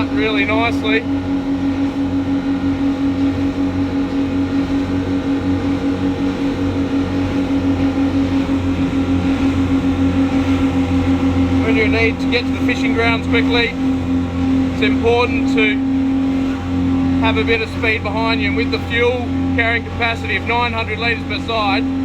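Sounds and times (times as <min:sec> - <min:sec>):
outboard motors droning: 0:00.0 - 0:22.0.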